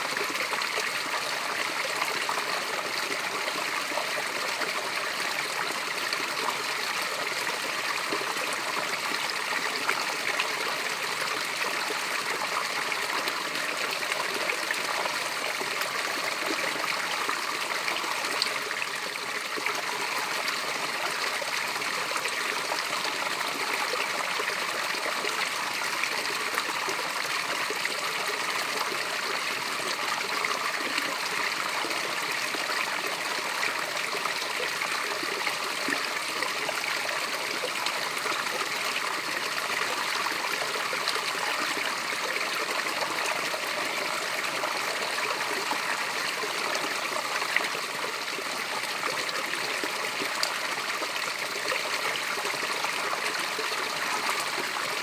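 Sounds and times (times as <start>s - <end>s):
water rushing down cascade: 0.0s - 55.0s.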